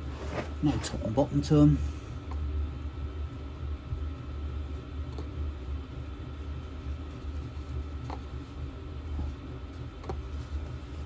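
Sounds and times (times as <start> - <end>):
heater low rumble: 0.0 - 11.0.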